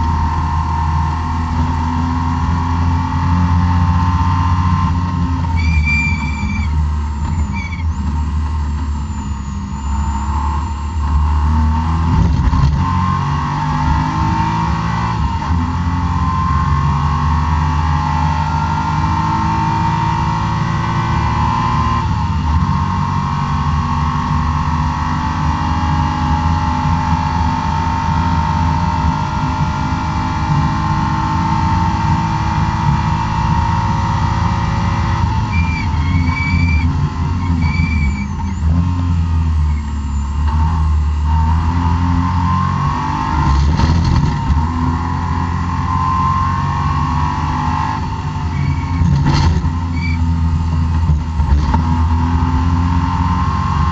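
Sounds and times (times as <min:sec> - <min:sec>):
car engine at full throttle: 0:00.0 - 0:53.9.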